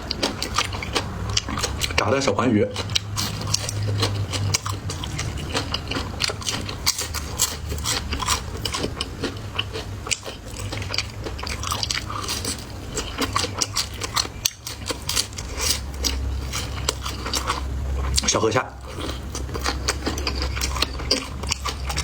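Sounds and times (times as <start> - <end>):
crunching and chewing fried fish: 0.0 - 22.0.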